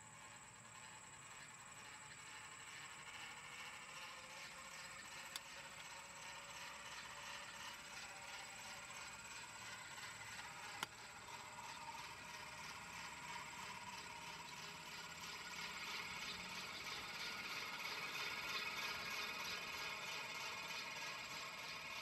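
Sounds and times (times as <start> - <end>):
clockwork fan whirring and ticking: 0.0 - 22.0.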